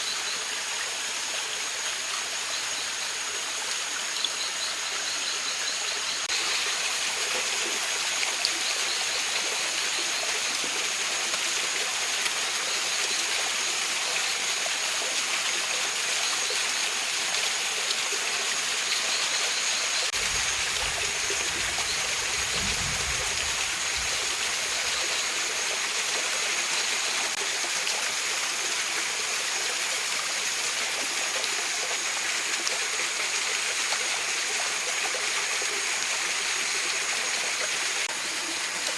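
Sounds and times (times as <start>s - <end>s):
stream rushing over rocks: 6.2s - 38.9s.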